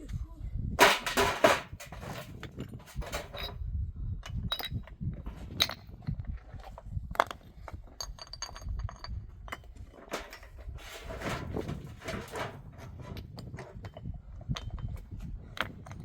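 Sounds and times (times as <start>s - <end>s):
hard objects knocking and clinking: 0.8s - 3.6s, 4.2s - 16.0s.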